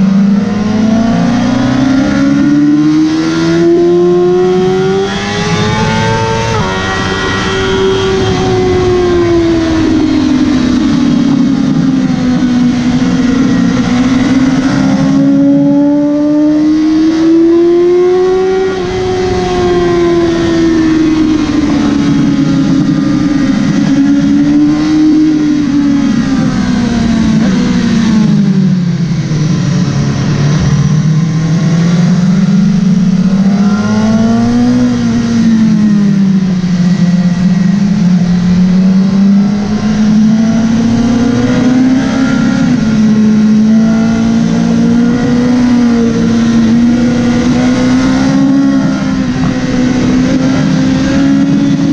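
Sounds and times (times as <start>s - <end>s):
motorcycle engine revving high: 0.0s - 51.9s.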